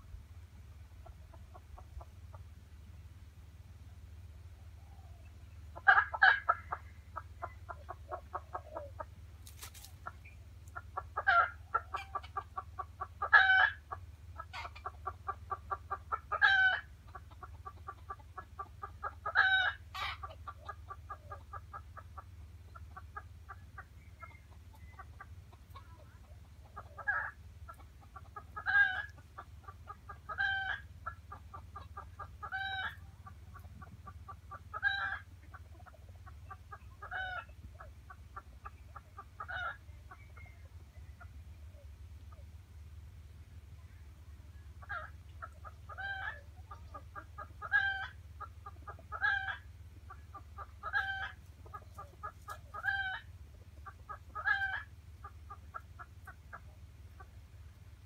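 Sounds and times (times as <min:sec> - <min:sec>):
jungle fowl clucking: 0:00.0 - 0:58.0.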